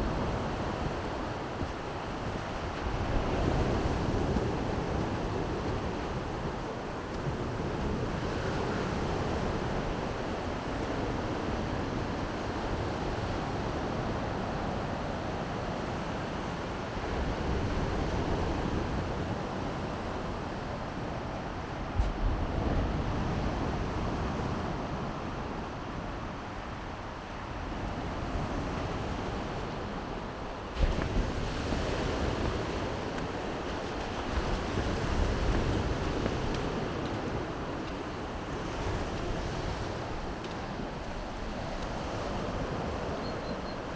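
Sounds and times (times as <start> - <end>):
wind on microphone: 0.0 - 15.8, 17.0 - 24.7, 27.7 - 43.9
surf washing onto shore: 0.0 - 21.1, 27.7 - 43.9.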